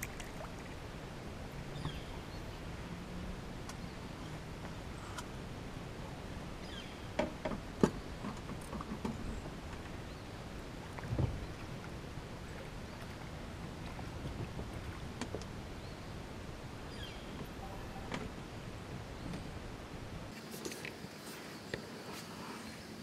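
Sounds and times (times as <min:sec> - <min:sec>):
boat low hum: 0:00.0 - 0:23.0.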